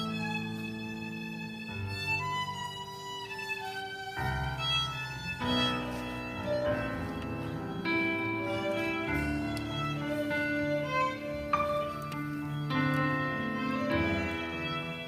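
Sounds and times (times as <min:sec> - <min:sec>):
low sustained accompaniment: 0:00.0 - 0:15.0
violin melody: 0:00.0 - 0:15.0.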